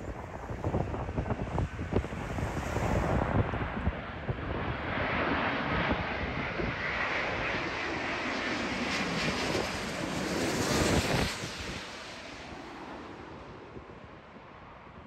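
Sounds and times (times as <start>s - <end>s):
wind buffeting microphone: 0.0s - 14.6s
jet airliner engines rushing: 0.0s - 15.0s.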